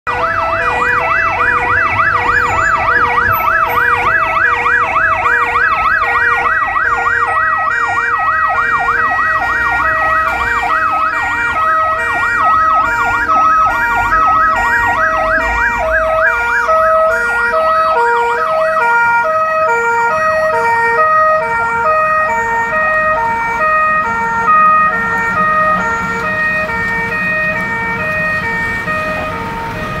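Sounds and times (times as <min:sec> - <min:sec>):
ambulance siren: 0:00.0 - 0:30.0.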